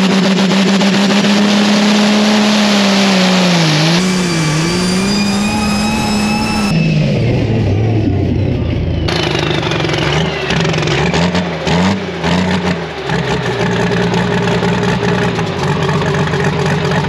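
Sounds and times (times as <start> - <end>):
tractor diesel engine: 0.0 - 17.0.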